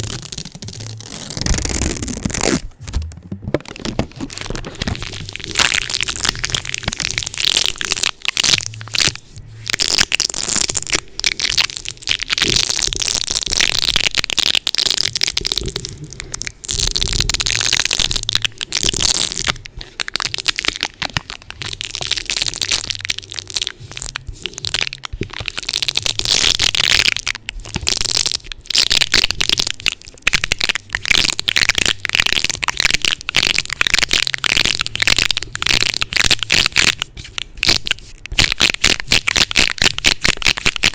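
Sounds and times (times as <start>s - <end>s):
tape crackling on microphone: 0.0s - 40.9s.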